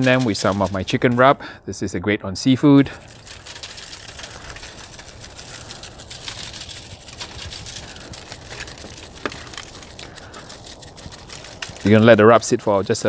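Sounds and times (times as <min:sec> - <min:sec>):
shaker bottle pattering: 0:00.0 - 0:01.2, 0:03.0 - 0:13.0.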